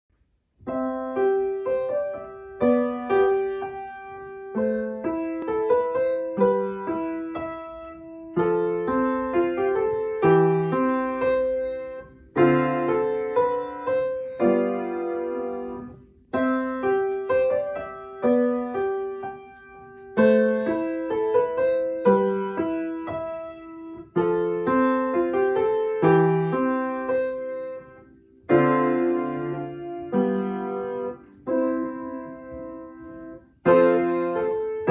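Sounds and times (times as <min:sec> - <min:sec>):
acoustic piano playing: 0:00.2 - 0:34.9.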